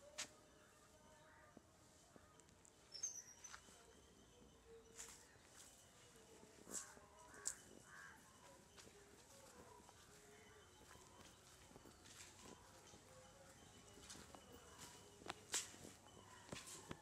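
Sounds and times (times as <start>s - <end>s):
faint bird chirps: 0.4s - 15.0s.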